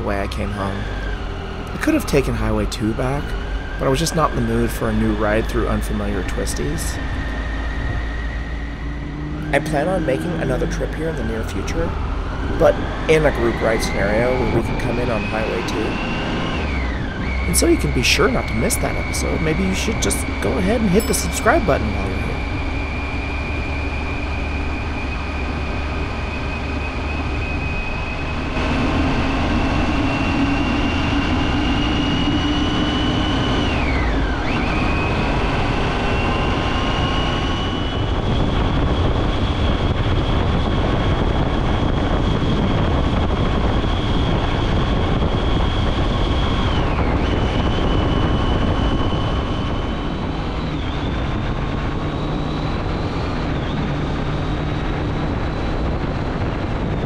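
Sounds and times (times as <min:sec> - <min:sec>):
motorcycle engine accelerating: 0:00.0 - 0:57.0
wind rushing over microphone: 0:00.0 - 0:57.0.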